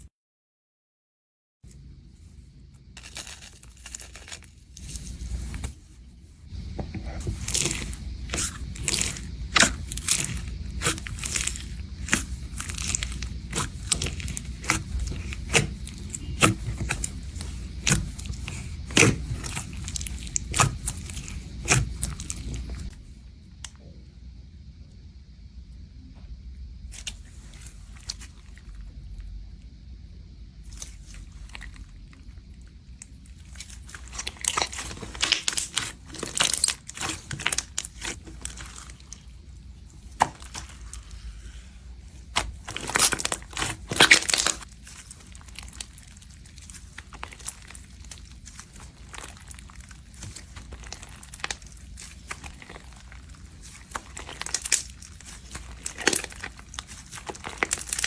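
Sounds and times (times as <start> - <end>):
crunchy slime crackling: 1.7 - 23.1, 26.8 - 29.4, 30.6 - 58.0.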